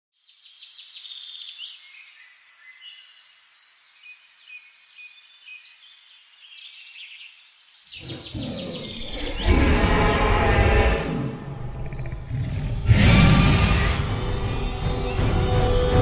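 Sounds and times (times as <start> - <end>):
songbirds singing and trilling: 0.2 - 16.0.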